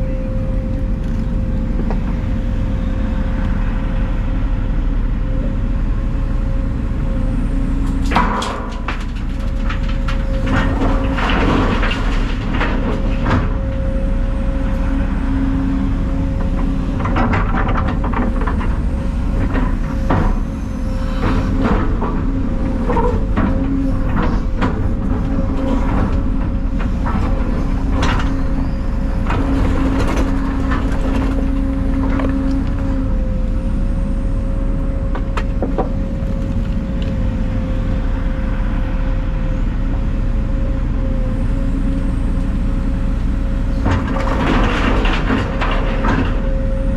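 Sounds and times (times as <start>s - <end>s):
heavy equipment engine whining: 0.0s - 46.9s.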